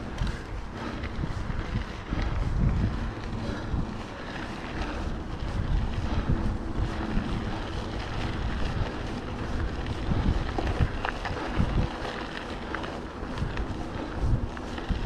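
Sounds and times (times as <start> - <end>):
mountain bike rolling on trail: 0.0 - 15.0
wind rumbling on microphone: 0.0 - 15.0.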